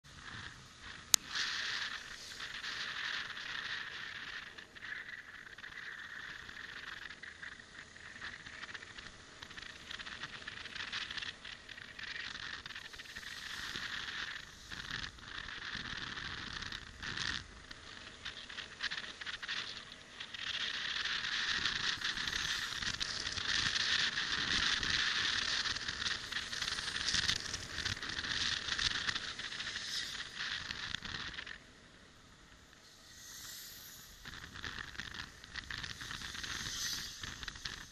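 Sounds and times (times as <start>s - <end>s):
wind rushing and crackling: 0.1s - 37.9s.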